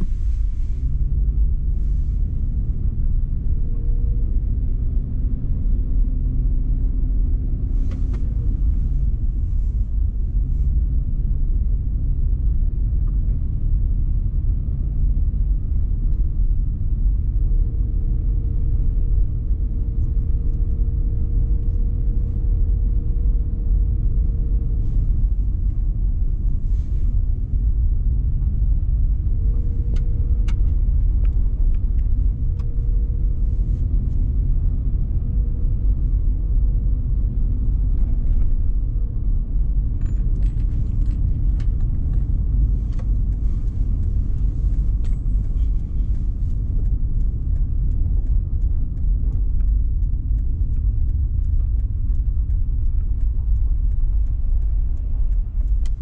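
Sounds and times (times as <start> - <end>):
car road and engine rumble: 0.0 - 56.0
faint hum: 0.0 - 56.0.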